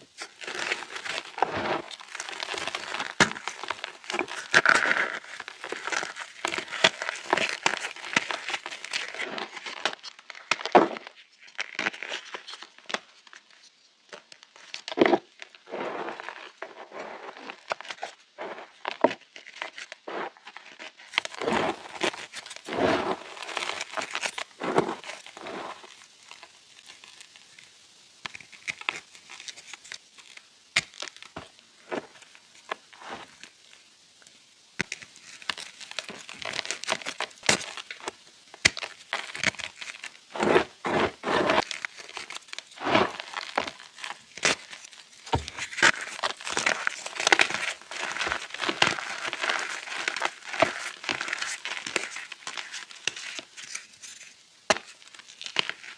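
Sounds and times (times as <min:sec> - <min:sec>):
chalk crunching and crumbling: 0:00.0 - 0:34.1, 0:34.8 - 0:55.9.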